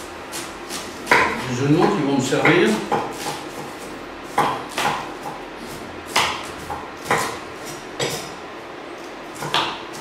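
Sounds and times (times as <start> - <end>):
knife chopping on cutting board: 0.3 - 8.4, 9.3 - 10.0.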